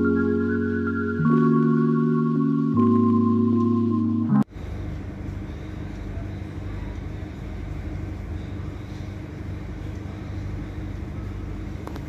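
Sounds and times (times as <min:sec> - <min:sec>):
ship machinery drone: 0:00.0 - 0:12.0.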